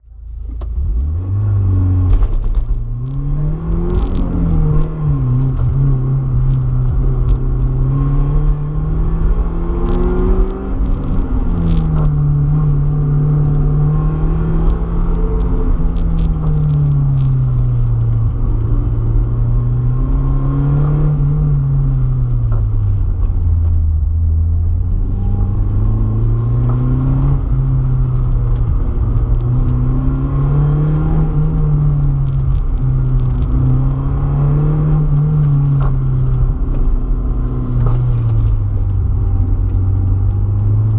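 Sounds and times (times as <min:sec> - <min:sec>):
car engine revving: 0:00.3 - 0:40.9.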